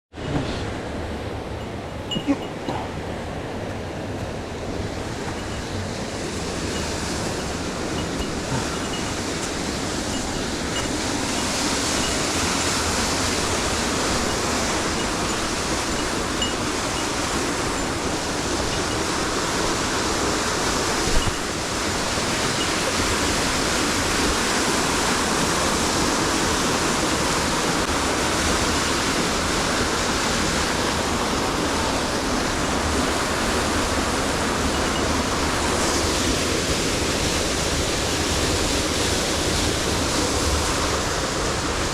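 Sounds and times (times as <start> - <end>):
rushing mountain stream: 0.2 - 41.9.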